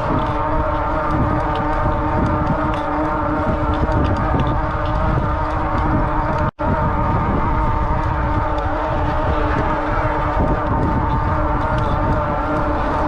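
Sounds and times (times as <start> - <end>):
electric motor whining: 0.0 - 13.0
wind on microphone: 0.0 - 13.0.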